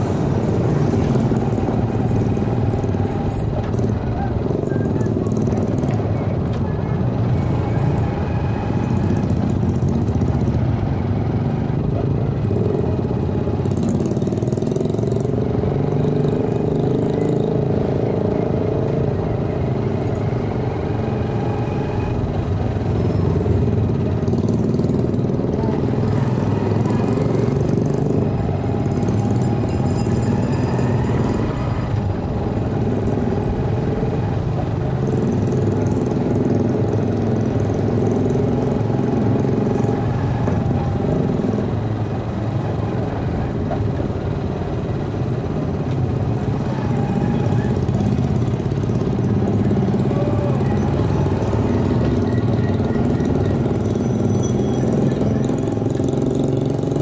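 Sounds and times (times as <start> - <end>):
road noise: 0.0 - 57.0
vehicle engine drone: 0.0 - 57.0.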